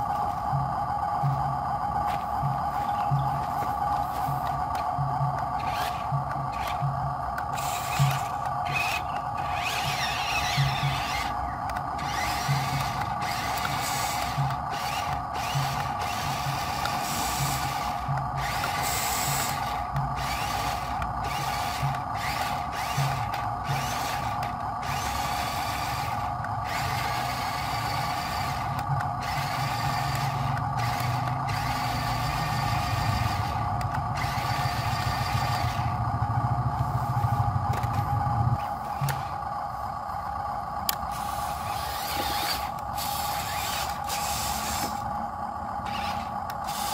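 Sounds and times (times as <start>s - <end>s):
electric motor and gears whining: 0.0s - 46.9s
low pulsing drone: 0.0s - 46.9s.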